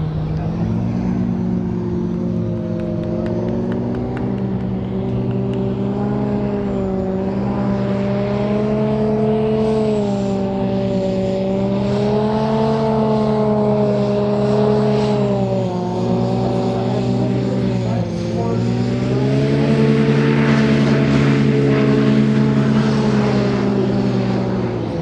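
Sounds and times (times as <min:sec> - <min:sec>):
vehicle engine running on water: 0:00.0 - 0:25.0.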